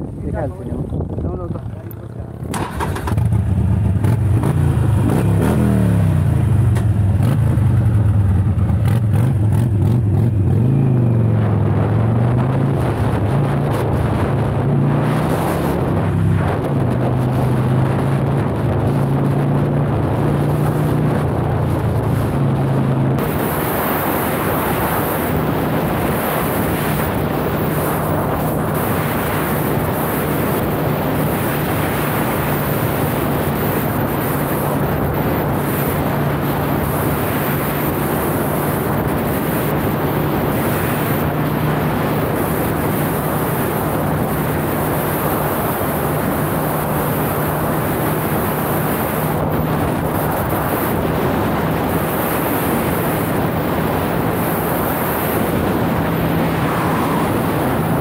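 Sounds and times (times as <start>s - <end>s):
motorcycle engine low hum: 0.0s - 58.0s
wind rushing over microphone: 0.0s - 58.0s.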